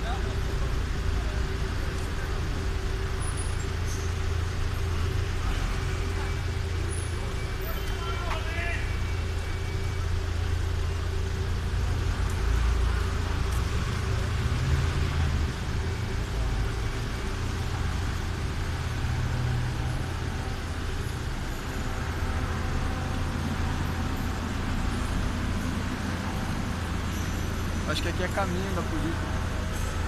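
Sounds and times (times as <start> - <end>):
traffic noise: 0.0 - 30.0
vehicle engines rumbling: 0.0 - 30.0.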